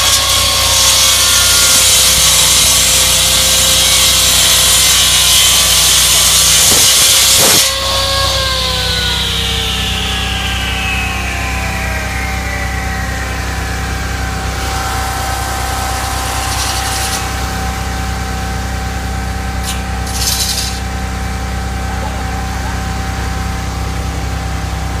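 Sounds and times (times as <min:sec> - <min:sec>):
concrete saw cutting: 0:00.0 - 0:24.6.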